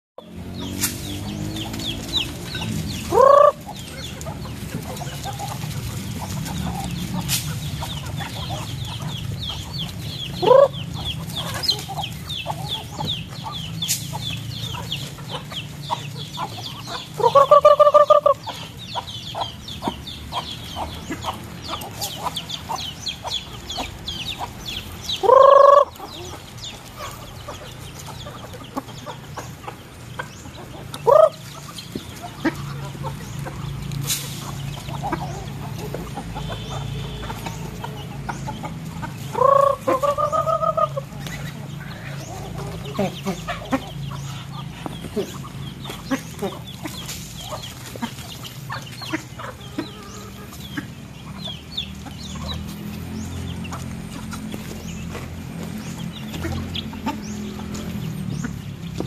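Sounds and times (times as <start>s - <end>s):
chickens squawking: 0.2s - 59.0s.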